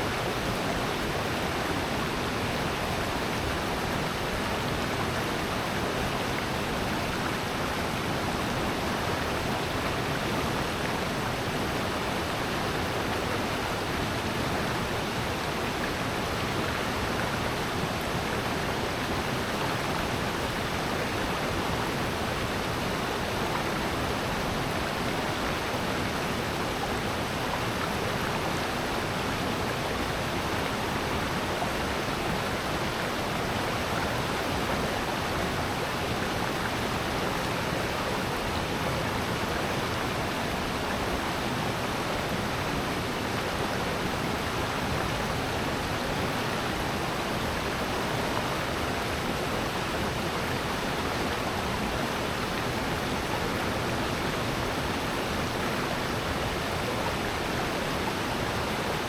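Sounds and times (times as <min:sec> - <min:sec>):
stream and waterfall rushing: 0:00.0 - 0:59.0.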